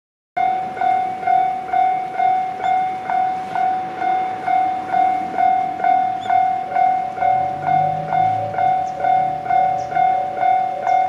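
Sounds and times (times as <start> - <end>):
level crossing bell dinging: 0.4 - 11.0.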